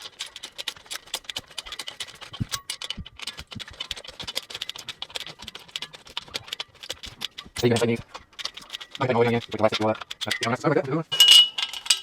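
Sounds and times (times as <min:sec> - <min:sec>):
hand tools clicking on metal: 0:00.0 - 0:12.0.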